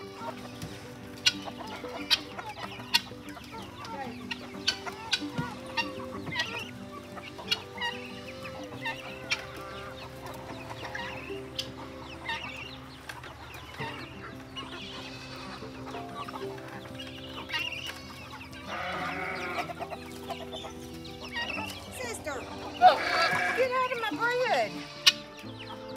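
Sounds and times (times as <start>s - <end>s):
chickens clucking: 0.0s - 25.9s
soft background music: 0.0s - 25.9s.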